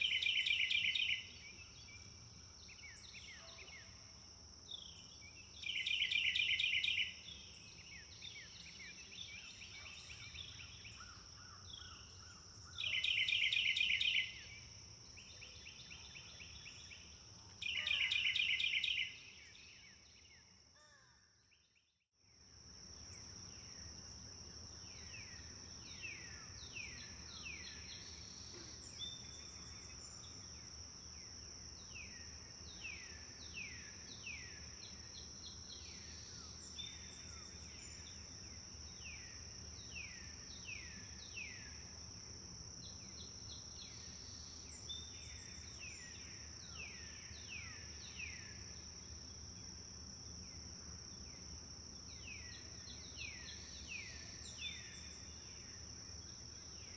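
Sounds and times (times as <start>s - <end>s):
songbird singing: 0.0s - 22.0s, 22.8s - 56.9s.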